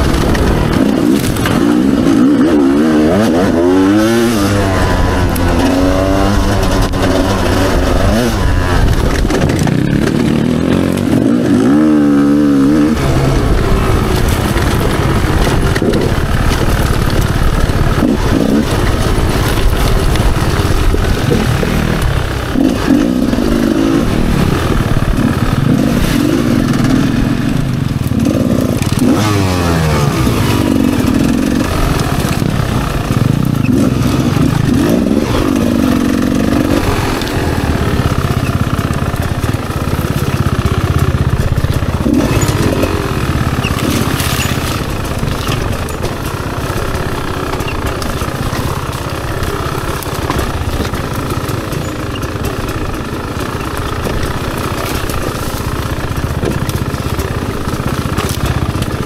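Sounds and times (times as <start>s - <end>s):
two-stroke motorcycle engine revving: 0.0s - 59.0s.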